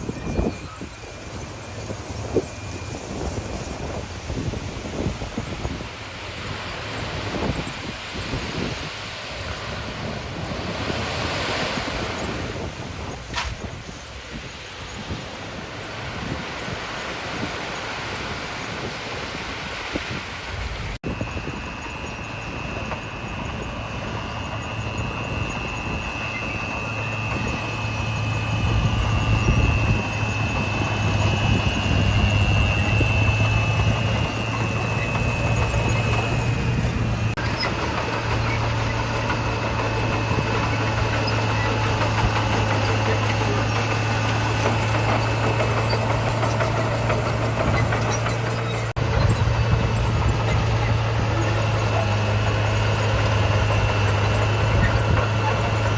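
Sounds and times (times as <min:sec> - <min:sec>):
high whine: 0:00.0 - 0:19.7, 0:20.6 - 0:55.9
heavy diesel engine running: 0:00.0 - 0:55.9.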